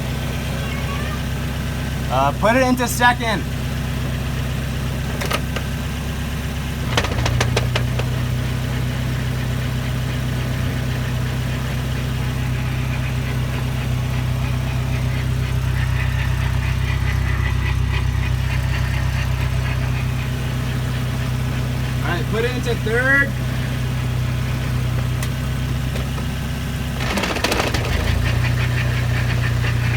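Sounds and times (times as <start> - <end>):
car engine running steadily: 0.0 - 29.9.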